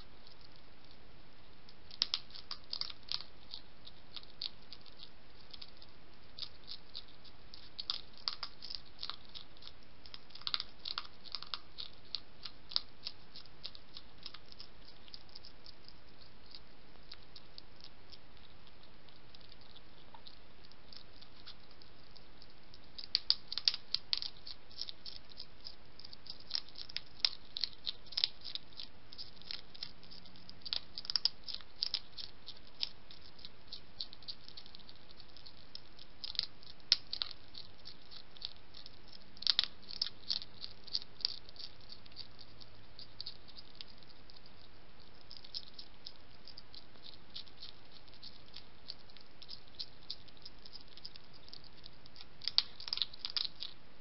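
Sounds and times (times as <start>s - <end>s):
hedgehog crunching biscuits: 1.6s - 54.0s.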